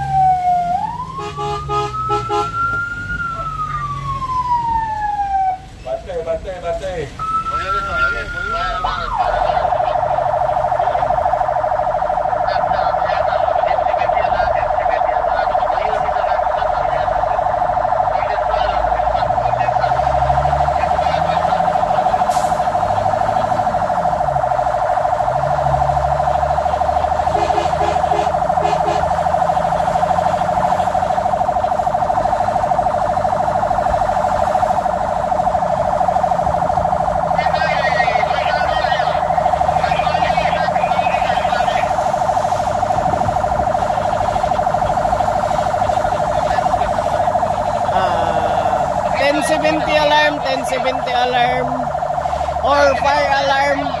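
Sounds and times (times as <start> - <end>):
fire engine siren: 0.0 - 54.0
truck engine: 0.0 - 54.0.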